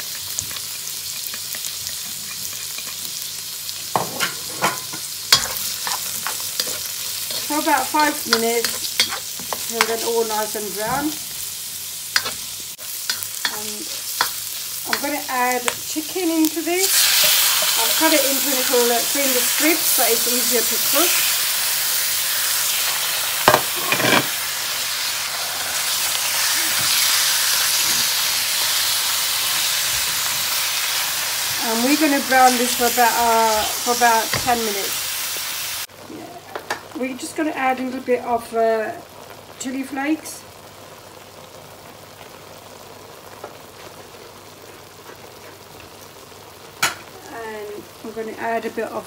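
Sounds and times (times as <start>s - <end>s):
food sizzling in oil: 0.0s - 49.0s.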